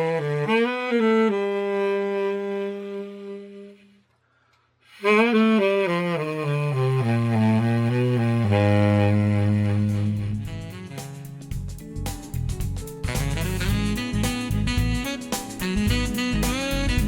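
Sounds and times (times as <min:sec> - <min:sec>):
tenor saxophone playing: 0:00.0 - 0:04.2, 0:04.8 - 0:11.8, 0:13.0 - 0:17.0.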